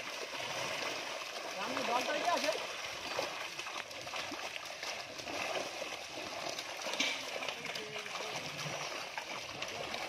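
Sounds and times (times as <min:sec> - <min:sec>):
fish splashing in shallow water: 0:00.0 - 0:10.0.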